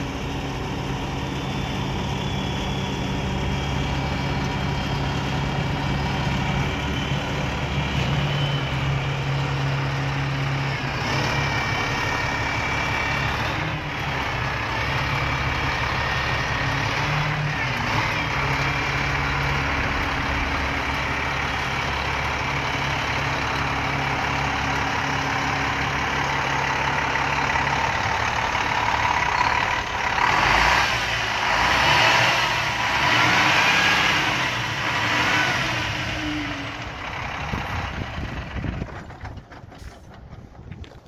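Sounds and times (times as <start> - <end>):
diesel truck engine idling and revving: 0.0 - 41.0.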